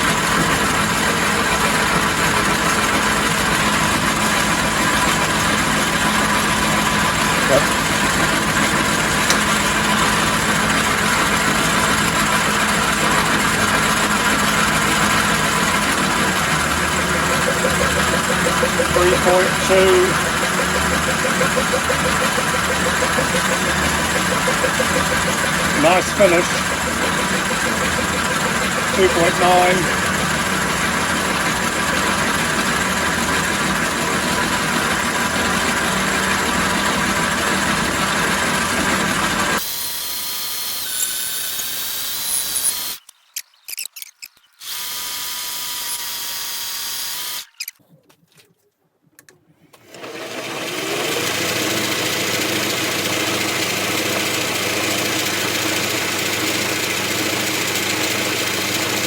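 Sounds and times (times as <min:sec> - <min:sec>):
metal lathe running: 0:00.0 - 0:43.1, 0:44.6 - 0:47.6, 0:49.9 - 0:59.0
motor whine: 0:00.0 - 0:47.7.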